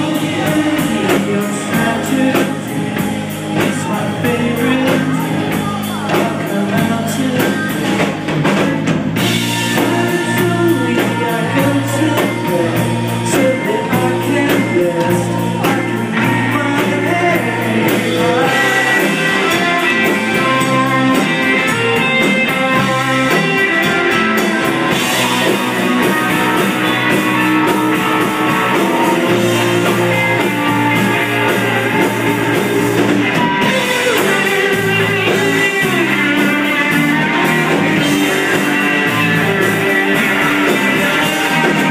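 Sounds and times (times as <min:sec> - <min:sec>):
bass guitar: 0:00.0 - 0:41.9
electric guitars: 0:00.0 - 0:41.9
fast drum beat: 0:00.0 - 0:41.9
keyboards: 0:00.0 - 0:41.9.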